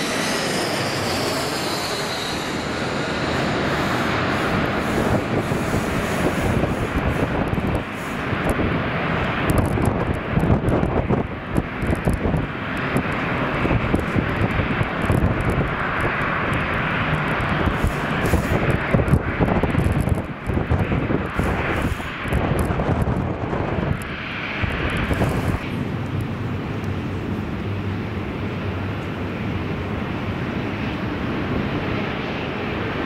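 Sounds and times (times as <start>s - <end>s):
jet engines rushing: 0.0s - 33.0s
low jet hum: 0.0s - 33.0s.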